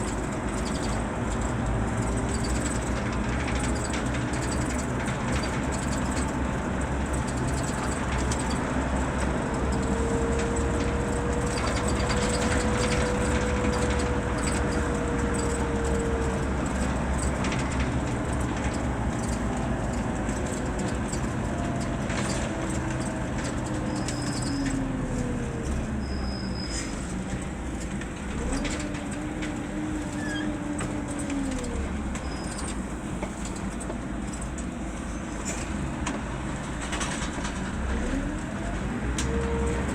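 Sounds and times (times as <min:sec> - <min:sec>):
bus diesel engine drone: 0:00.0 - 0:39.9.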